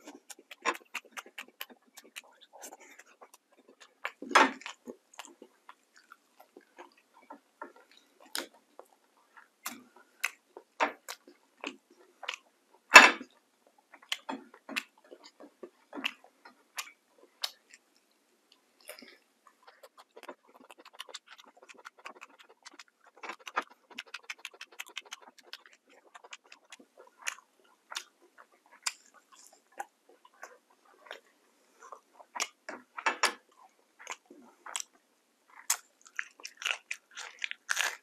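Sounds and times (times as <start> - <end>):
person chewing with open mouth: 0.0 - 38.0.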